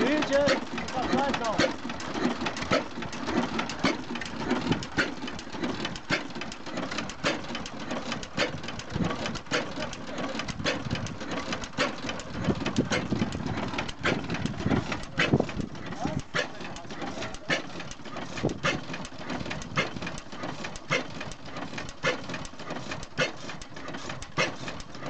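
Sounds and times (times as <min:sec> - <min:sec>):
stationary oil engine running: 0:00.0 - 0:25.0.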